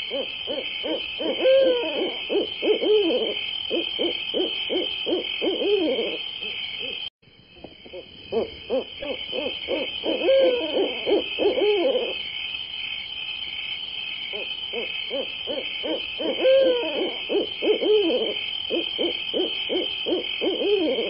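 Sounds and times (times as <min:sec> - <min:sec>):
owl hooting: 0:00.0 - 0:12.2, 0:14.3 - 0:21.0.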